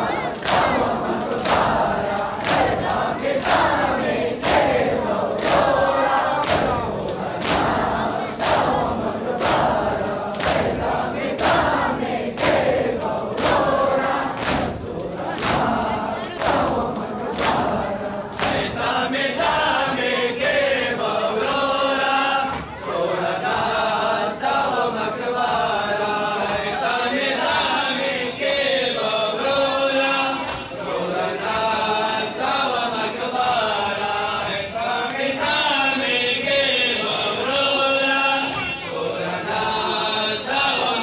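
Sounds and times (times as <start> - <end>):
men chanting a lament: 0.0 - 41.0.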